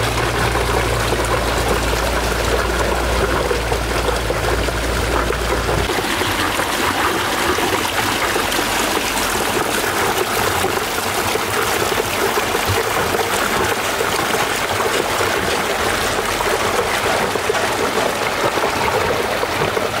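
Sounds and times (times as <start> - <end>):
water rushing through dam outlet: 0.0 - 20.0.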